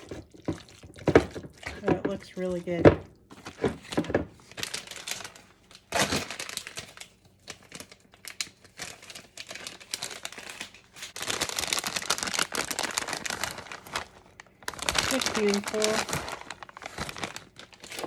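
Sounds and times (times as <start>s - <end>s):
plastic packaging crinkling: 3.3s - 18.0s.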